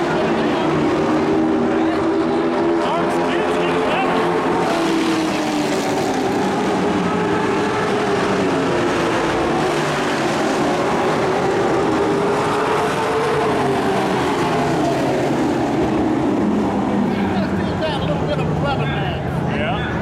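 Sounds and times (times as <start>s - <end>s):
racing truck engines passing: 0.0s - 20.0s.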